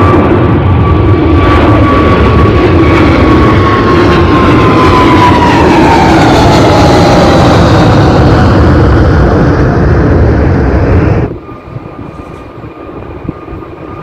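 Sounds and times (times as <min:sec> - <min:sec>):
jet engines roaring with whine: 0:00.0 - 0:14.0.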